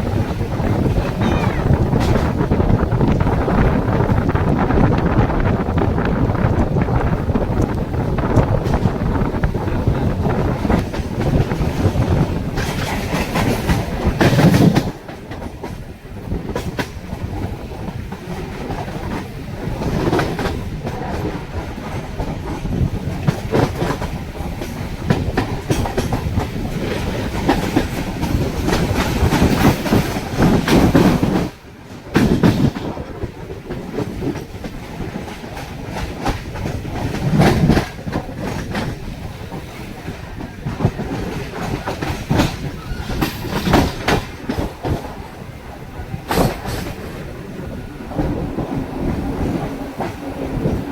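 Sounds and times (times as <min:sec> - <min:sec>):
train wheels clattering over rail joints: 0:00.0 - 0:50.9.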